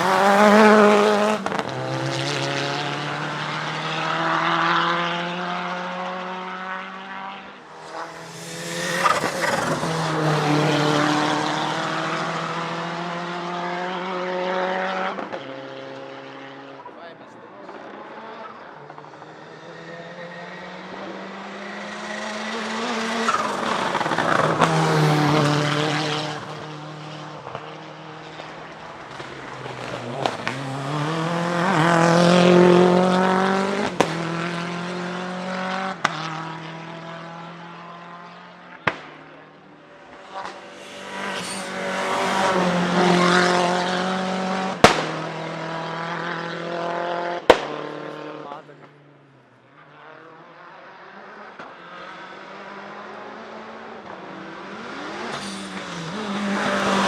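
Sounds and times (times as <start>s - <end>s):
race car revving past: 0.0s - 16.9s, 17.7s - 49.1s, 49.8s - 57.0s.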